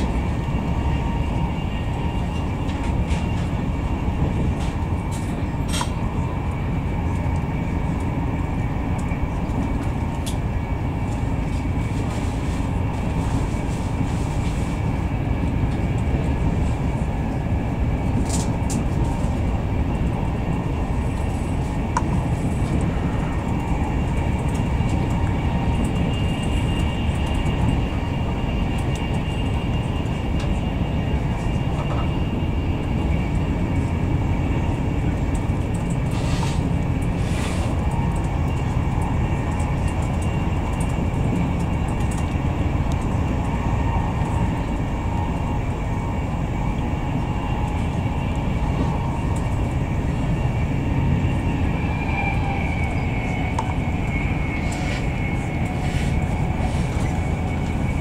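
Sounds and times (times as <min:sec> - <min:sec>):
train carriage rumble: 0:00.0 - 0:58.0.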